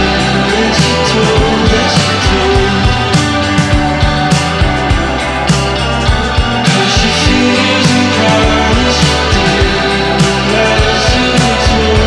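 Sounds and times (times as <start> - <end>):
dream-pop song: 0.0 - 12.0.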